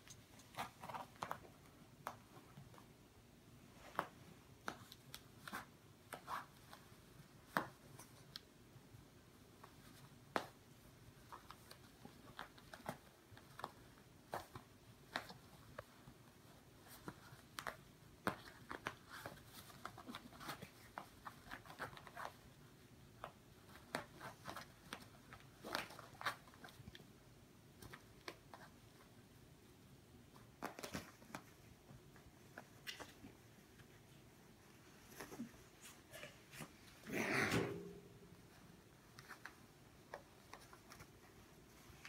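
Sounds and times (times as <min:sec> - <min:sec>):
cats pawing a fabric toy: 0:00.0 - 0:37.6, 0:38.4 - 0:42.0.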